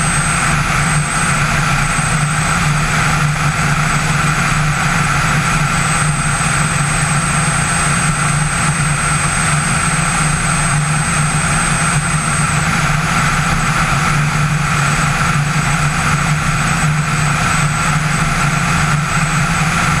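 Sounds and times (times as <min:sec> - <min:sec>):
aircraft engine and propeller: 0:00.0 - 0:20.0.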